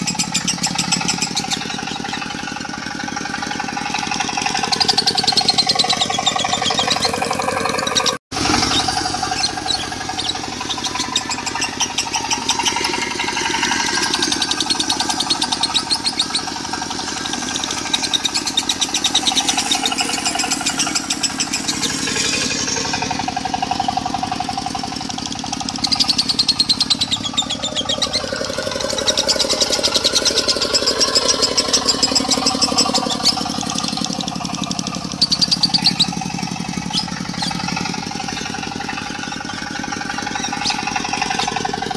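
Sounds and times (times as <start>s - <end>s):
lovebirds chattering: 0.0s - 41.8s
diesel engine running: 0.0s - 41.9s.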